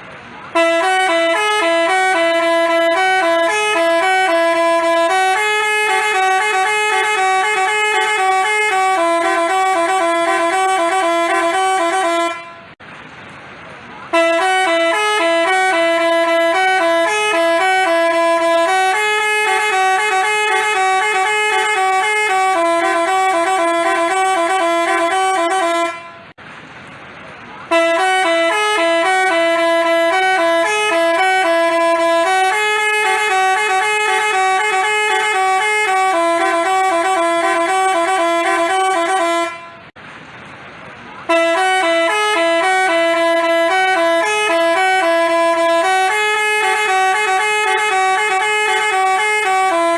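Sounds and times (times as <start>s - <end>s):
multi-tone horn playing a tune: 0.5s - 12.8s, 14.1s - 26.4s, 27.7s - 40.0s, 41.3s - 49.9s.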